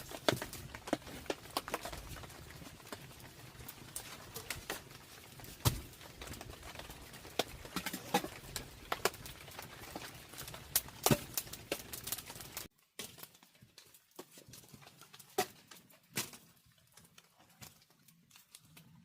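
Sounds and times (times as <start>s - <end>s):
sharp taps and crackles: 0.0s - 18.9s.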